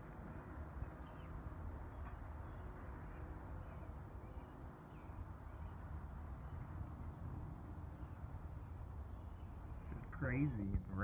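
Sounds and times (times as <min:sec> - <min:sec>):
low outdoor rumble: 0:00.0 - 0:11.0
faint bird chirps: 0:00.8 - 0:11.0.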